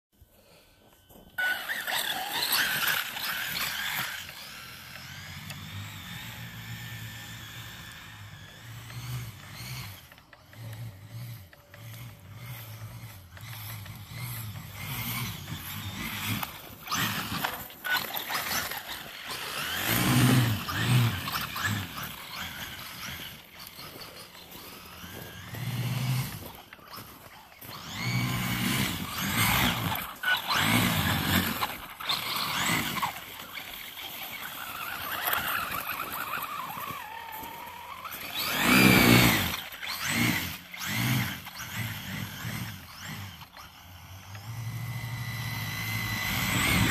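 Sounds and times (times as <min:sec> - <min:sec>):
tires digging through snow: 0:00.2 - 0:46.9
electric motor whining: 0:00.4 - 0:46.9.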